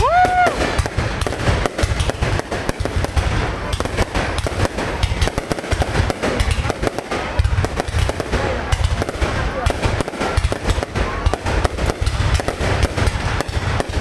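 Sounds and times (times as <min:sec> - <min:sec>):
fireworks cracks and bangs: 0:00.0 - 0:14.0.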